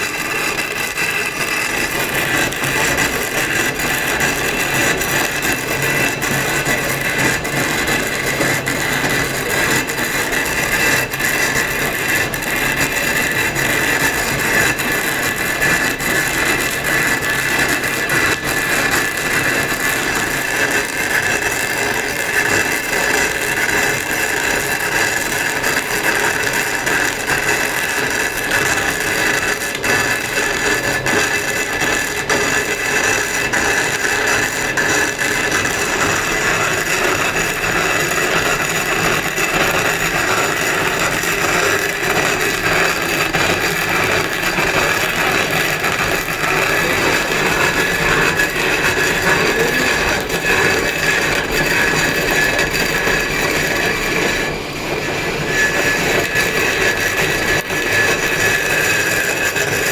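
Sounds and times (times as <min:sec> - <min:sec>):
power tool whining on stone: 0:00.0 - 0:59.9.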